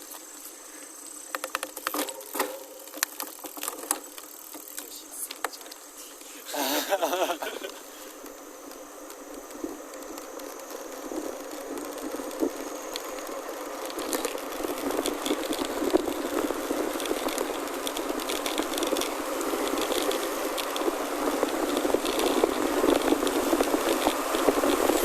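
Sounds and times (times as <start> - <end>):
bike tyres on gravel: 0.0 - 25.0.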